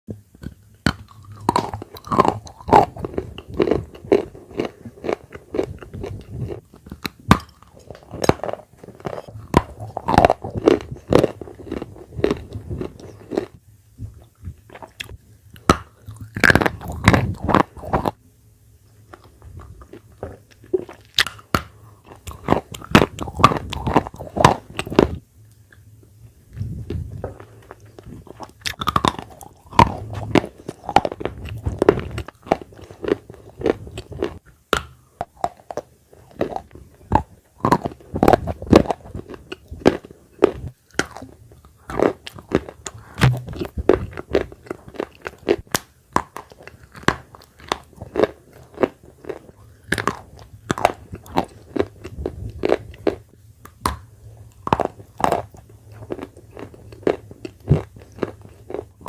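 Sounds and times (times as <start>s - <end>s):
chewing crunchy clay: 0.4s - 18.2s, 19.1s - 25.2s, 26.6s - 59.0s.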